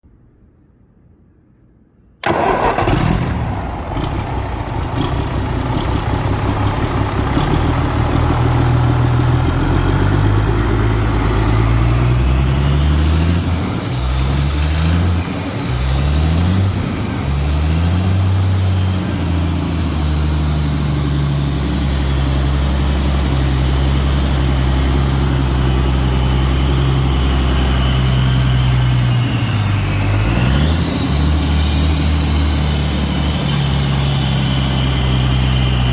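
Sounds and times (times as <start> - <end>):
diesel engine starting and revving: 2.2 - 35.9.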